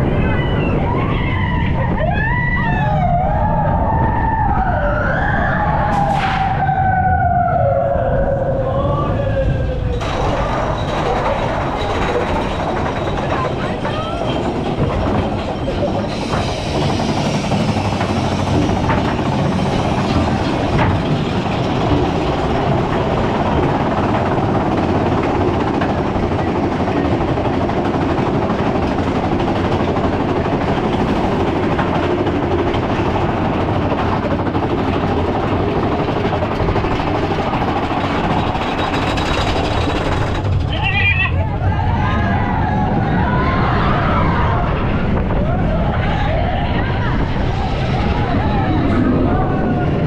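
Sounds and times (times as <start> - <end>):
roller coaster wheels on rails: 0.0 - 50.0.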